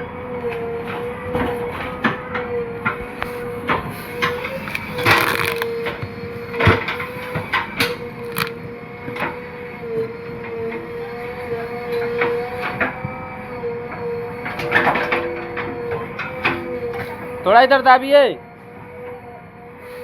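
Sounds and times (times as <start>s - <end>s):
diesel engine and hydraulics: 0.0s - 20.0s.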